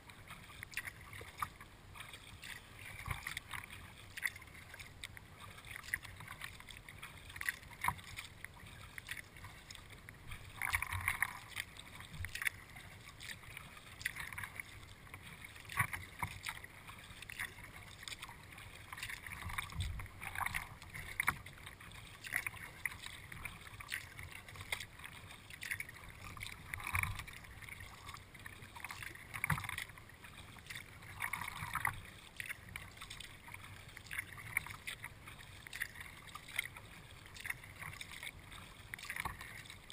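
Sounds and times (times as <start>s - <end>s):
paddle splashing into water: 0.0s - 39.9s
paddle clicks: 0.1s - 39.9s
water drips: 0.6s - 30.0s, 30.6s - 39.9s.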